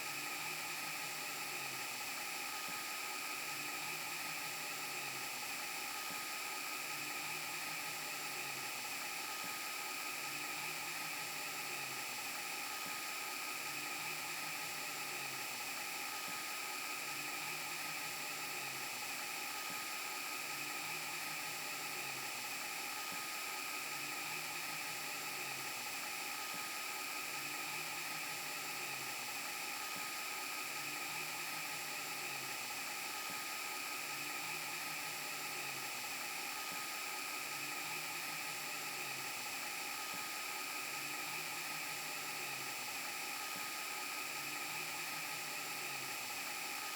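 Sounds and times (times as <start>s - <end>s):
static hiss with whining tones: 0.0s - 46.9s.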